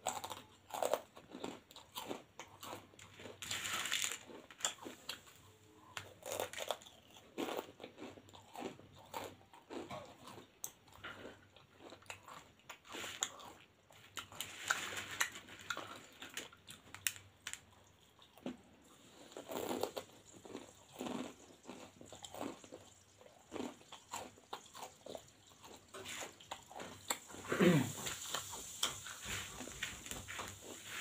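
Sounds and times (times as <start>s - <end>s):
person crunching crisp snack: 0.0s - 31.0s.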